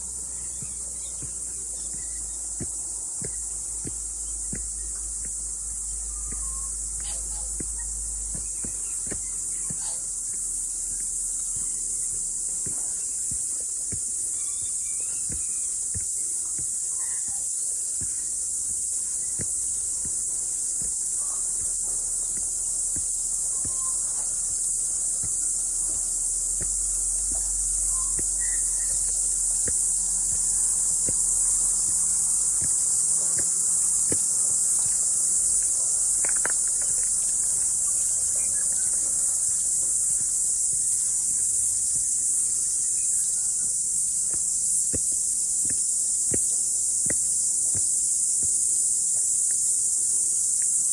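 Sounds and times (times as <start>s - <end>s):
cicadas singing: 0.0s - 50.9s.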